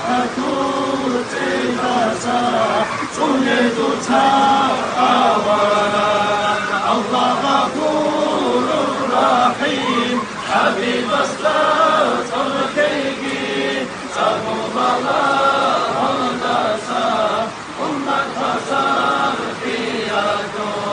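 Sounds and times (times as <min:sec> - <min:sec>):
men chanting in unison: 0:00.0 - 0:20.9.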